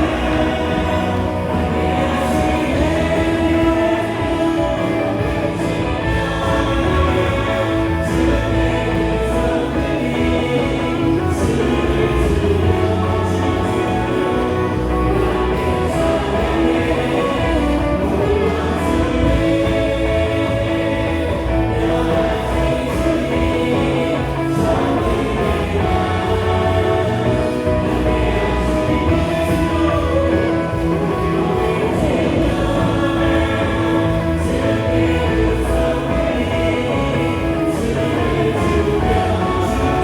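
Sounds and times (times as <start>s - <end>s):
group of singers singing: 0.0s - 40.0s
worship band playing: 0.0s - 40.0s.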